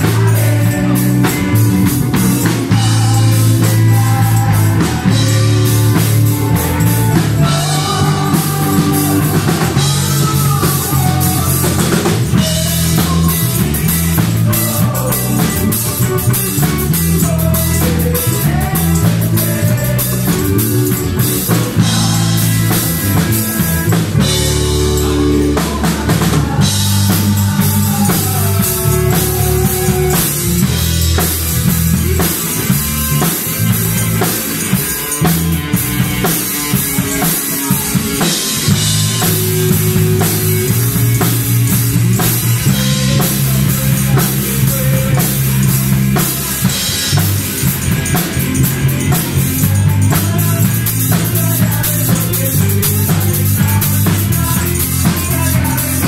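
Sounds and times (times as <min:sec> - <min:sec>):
drum kit beat: 0:00.0 - 0:56.0
electric bass: 0:00.0 - 0:56.0
electric guitar: 0:00.0 - 0:56.0
keyboard: 0:00.0 - 0:56.0.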